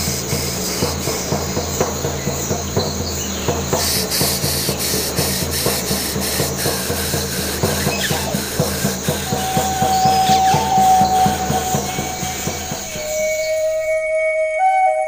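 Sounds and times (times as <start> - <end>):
river water rushing: 0.0 - 14.0
frame drum beats: 0.0 - 14.2.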